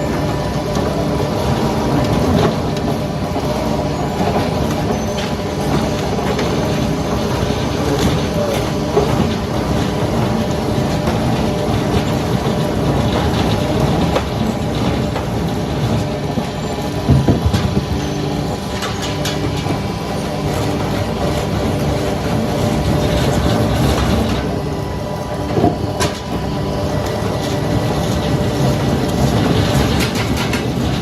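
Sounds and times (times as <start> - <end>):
heavy machinery humming and clattering: 0.0 - 31.0.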